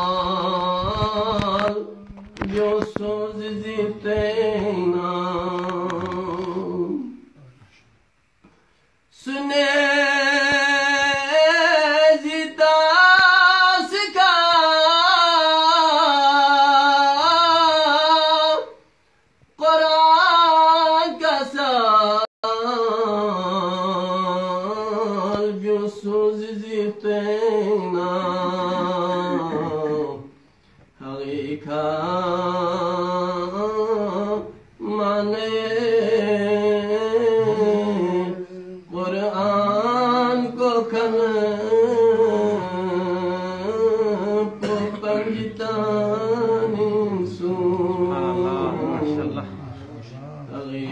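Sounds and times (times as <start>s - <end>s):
man chanting: 0.0s - 7.8s, 9.1s - 18.8s, 19.6s - 30.3s, 31.0s - 50.9s.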